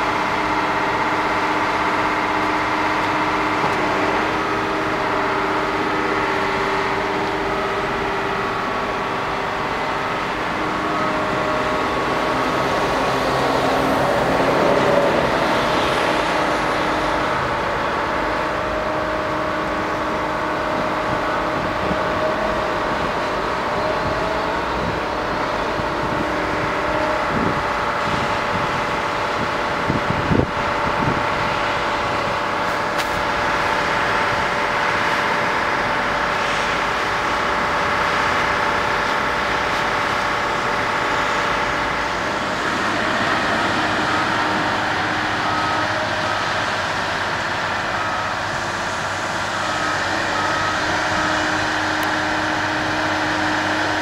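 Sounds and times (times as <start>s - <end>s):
heavy machinery engine drone: 0.0s - 54.0s
rushing noise: 0.0s - 54.0s.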